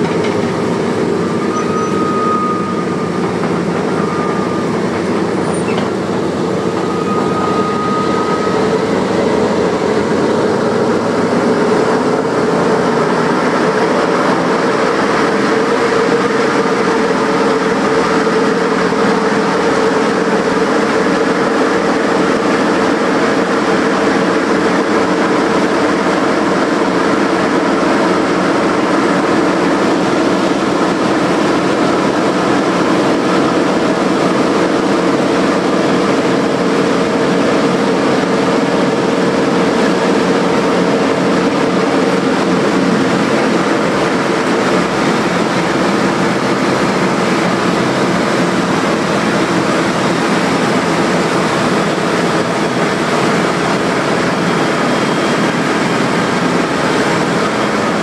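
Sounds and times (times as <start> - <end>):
piston aircraft engines roaring: 0.0 - 58.0.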